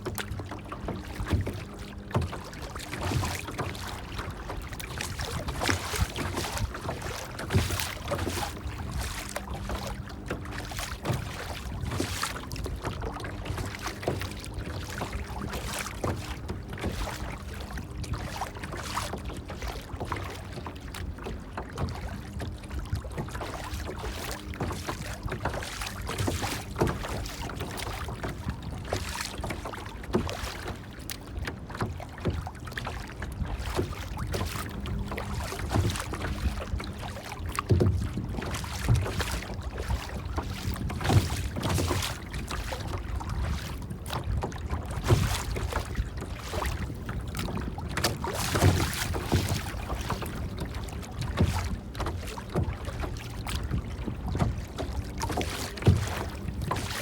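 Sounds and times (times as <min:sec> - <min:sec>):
water splashing and lapping: 0:00.0 - 0:57.0.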